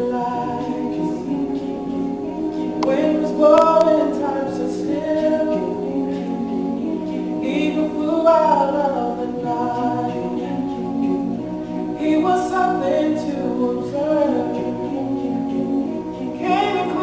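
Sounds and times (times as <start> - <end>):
men's a cappella group singing: 0.0 - 17.0.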